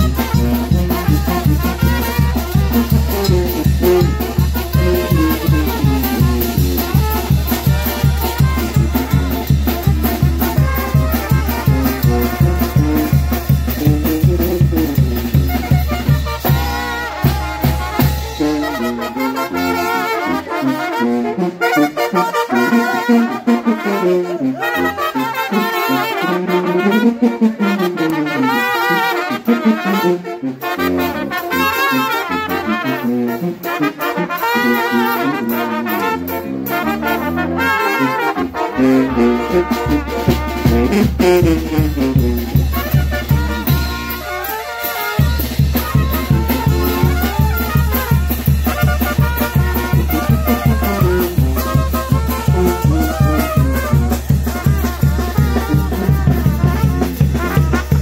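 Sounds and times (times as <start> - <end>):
trumpets playing lively melody: 0.0 - 58.0.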